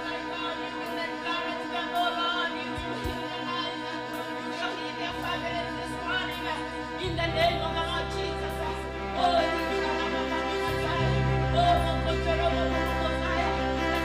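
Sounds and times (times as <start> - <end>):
low bass notes: 0.0 - 14.0
worship singing over held chords: 0.0 - 14.0.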